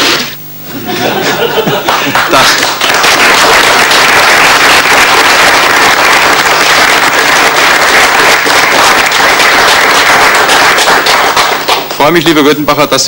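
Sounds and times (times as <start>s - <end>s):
audience applauding: 1.4s - 12.2s.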